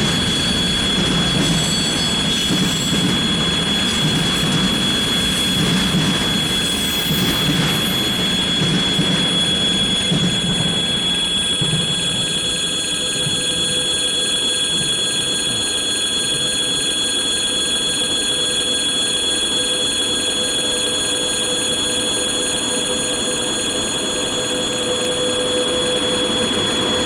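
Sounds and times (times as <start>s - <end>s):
freight train rumbling on rails: 0.0s - 16.6s, 20.5s - 27.0s
high-pitched ringing tone: 0.0s - 27.0s.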